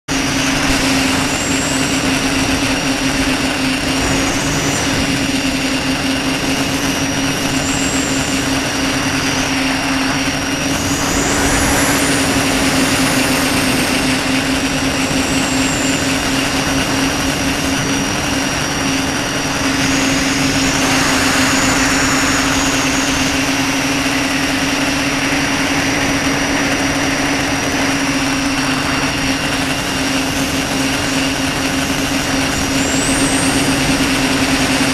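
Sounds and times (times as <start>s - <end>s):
drone motors and propellers: 0.0s - 34.9s
rushing air: 0.1s - 34.9s.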